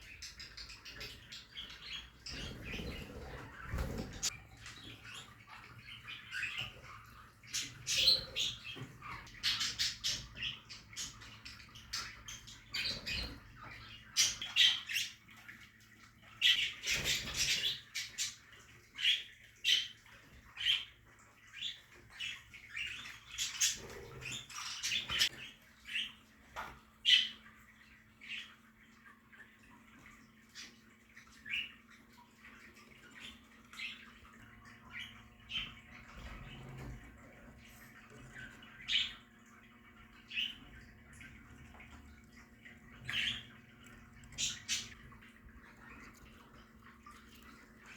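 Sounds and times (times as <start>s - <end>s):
budgerigars chirping and squawking: 0.0s - 26.2s, 27.0s - 47.9s
faint steady hum: 0.0s - 47.9s.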